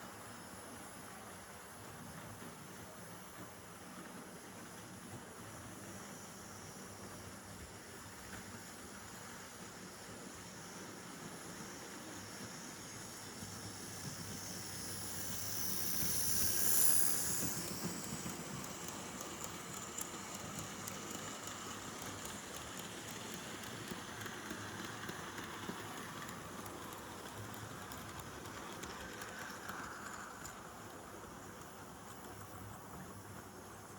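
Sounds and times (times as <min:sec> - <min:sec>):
steady hiss with low rumble: 0:00.0 - 0:33.9.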